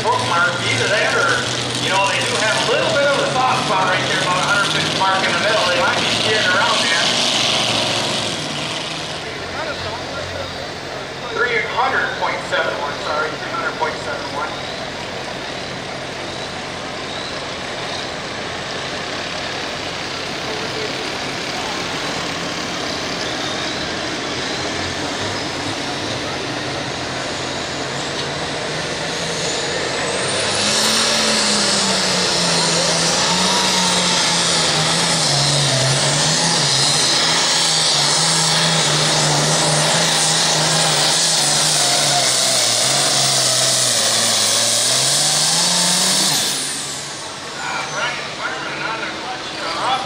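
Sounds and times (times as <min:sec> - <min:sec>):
turbo whine: 0:00.0 - 0:43.4
tractor engine under load: 0:00.0 - 0:50.0.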